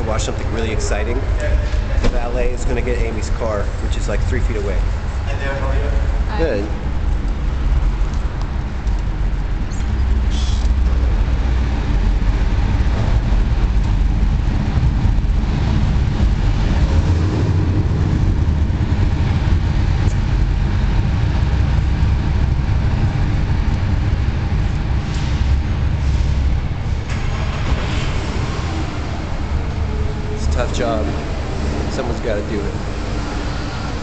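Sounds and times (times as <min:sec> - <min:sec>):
traffic reverberating: 0:00.0 - 0:34.0.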